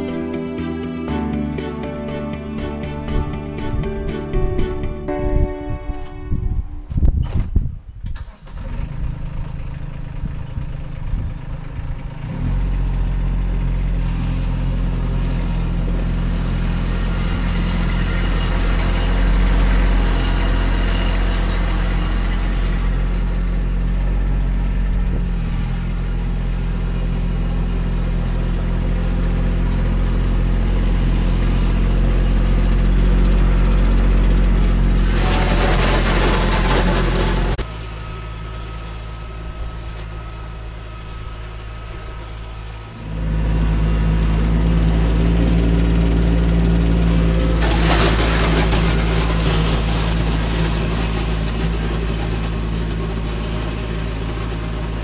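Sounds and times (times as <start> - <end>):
diesel tractor engine starting: 0.0 - 55.0.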